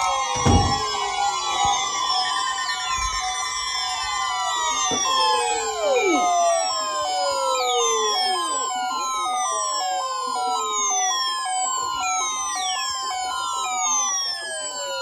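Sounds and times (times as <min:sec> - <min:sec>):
falling siren-like sweeps: 0:00.0 - 0:15.0
two-tone warbling alarm: 0:00.0 - 0:15.0.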